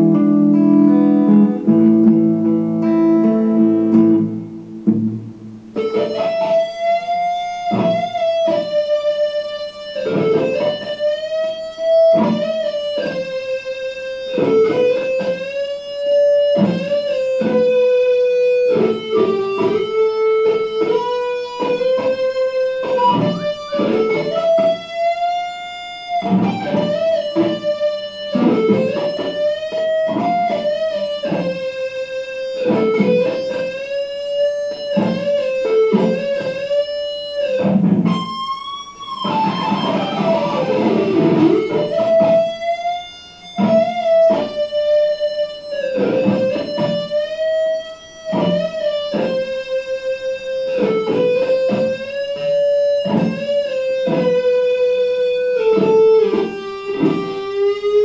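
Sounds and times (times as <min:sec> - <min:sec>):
electric guitar blues lead: 0:00.0 - 0:58.0.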